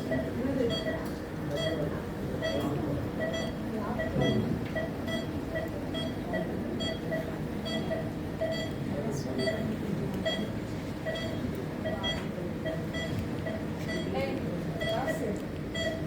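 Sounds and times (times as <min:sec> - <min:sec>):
patient monitor beeping: 0:00.0 - 0:16.0.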